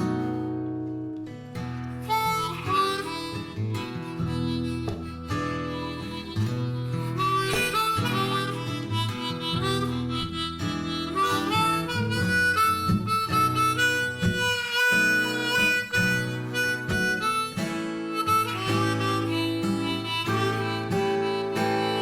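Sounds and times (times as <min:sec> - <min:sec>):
acoustic guitar accompaniment: 0:00.0 - 0:22.0
harmonica bending notes: 0:00.0 - 0:22.0.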